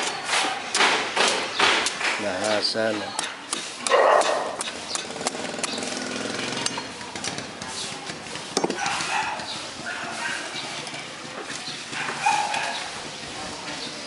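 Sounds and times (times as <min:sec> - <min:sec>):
street noise: 0:00.0 - 0:14.0
voices: 0:02.2 - 0:14.0.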